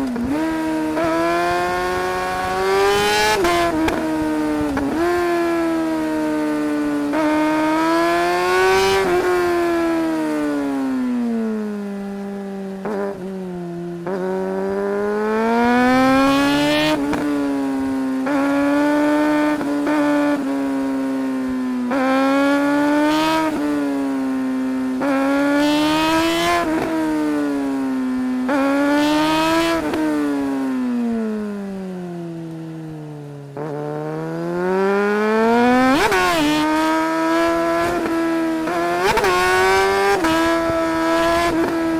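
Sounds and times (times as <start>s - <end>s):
motorcycle engine accelerating hard: 0.0s - 41.9s.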